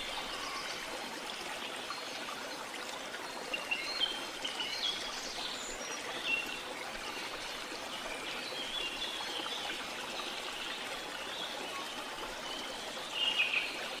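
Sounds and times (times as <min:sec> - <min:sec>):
water flowing and trickling: 0:00.0 - 0:14.0.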